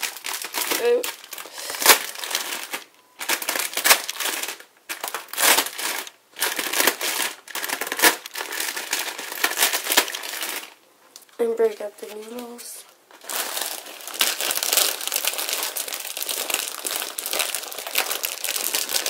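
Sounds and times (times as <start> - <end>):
dry noodles crushed in plastic wrapper: 0.0 - 10.8, 13.2 - 19.0.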